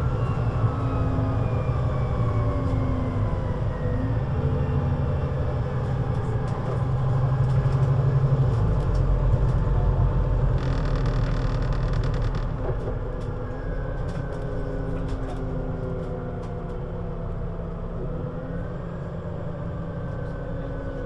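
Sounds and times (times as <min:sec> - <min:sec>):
bus engine running: 0:00.0 - 0:11.2, 0:12.4 - 0:21.0.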